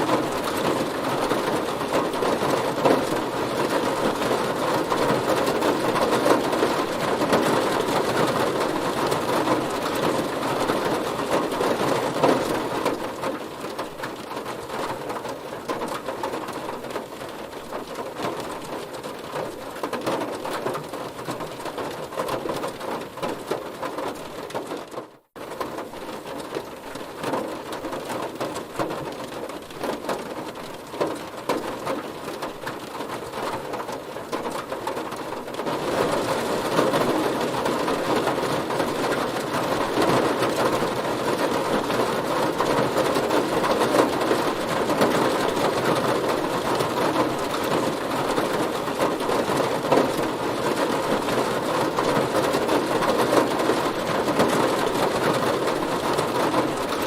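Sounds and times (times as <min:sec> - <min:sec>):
heavy rain on car body: 0:00.0 - 0:57.0.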